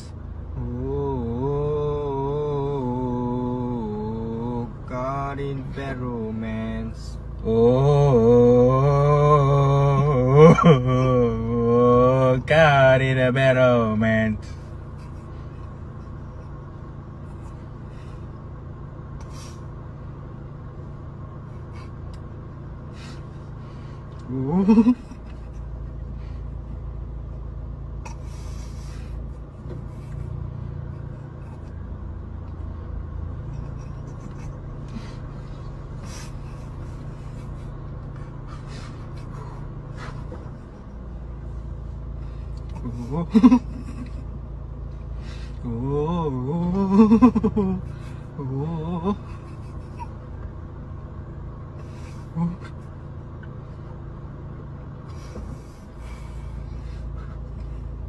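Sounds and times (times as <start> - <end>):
car rumble from inside cabin: 0.0 - 58.0.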